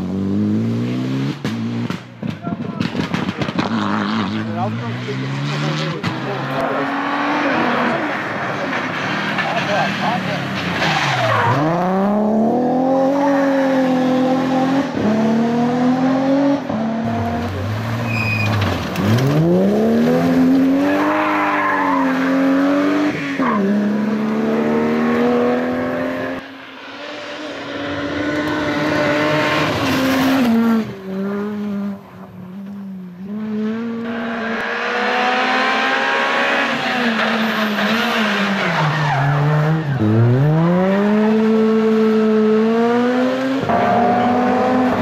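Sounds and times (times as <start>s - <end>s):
rally car engines at full throttle: 0.0s - 45.0s.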